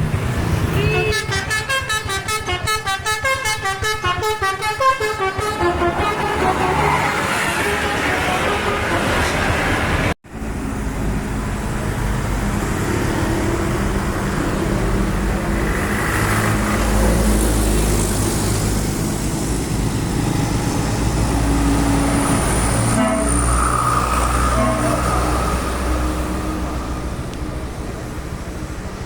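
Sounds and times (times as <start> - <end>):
large vehicle engines rumbling: 0.0 - 29.0.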